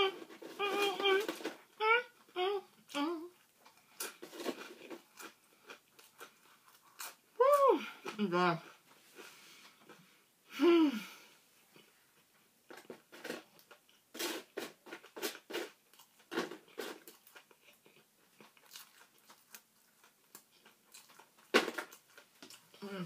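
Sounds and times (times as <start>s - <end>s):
chewing and crunching food: 0.0s - 10.1s, 11.7s - 22.9s.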